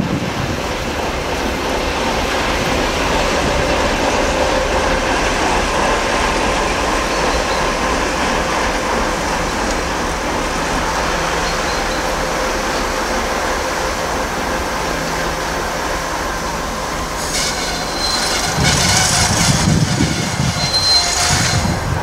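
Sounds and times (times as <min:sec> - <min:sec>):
diesel locomotive running: 0:00.0 - 0:22.0.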